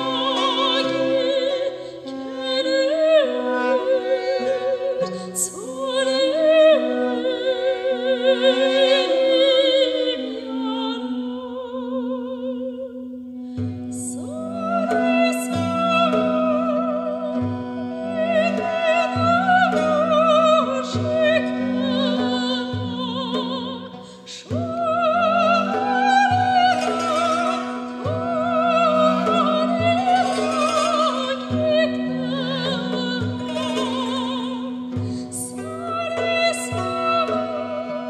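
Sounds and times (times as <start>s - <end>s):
plucked string instruments: 0.0s - 12.5s, 13.3s - 38.0s
duduk drone: 0.0s - 12.7s, 13.5s - 38.0s
woman singing folk song: 0.0s - 38.0s.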